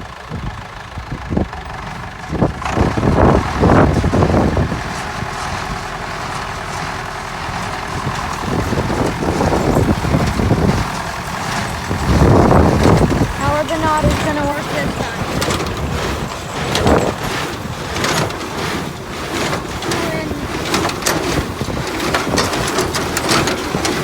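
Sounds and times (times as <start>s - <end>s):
tractor diesel engine under load: 0.0s - 24.0s
square baler: 0.1s - 24.0s.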